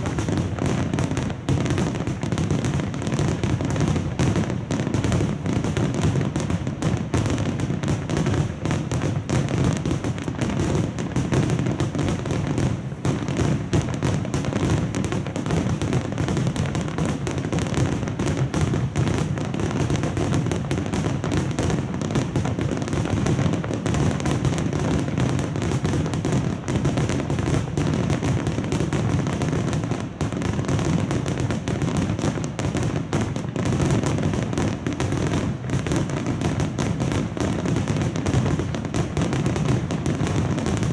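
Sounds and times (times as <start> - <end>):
firework booms and crackles: 0.0 - 40.9.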